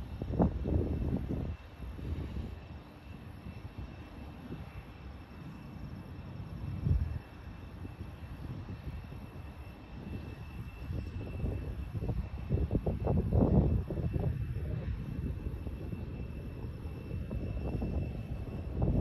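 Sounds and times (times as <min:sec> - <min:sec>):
distant light aircraft engine droning: 0:00.0 - 0:19.0
wind gusting on microphone: 0:00.0 - 0:19.0.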